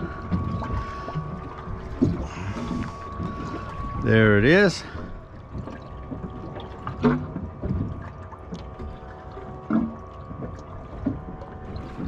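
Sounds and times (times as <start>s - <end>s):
faint steady hum: 0.0s - 12.0s
water lapping against boat hull: 0.0s - 12.0s.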